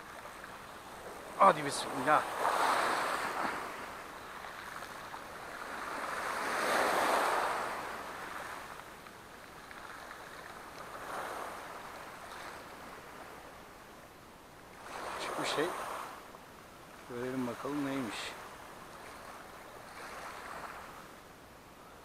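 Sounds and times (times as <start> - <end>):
sea waves washing against shore: 0.0 - 16.3, 16.9 - 21.1.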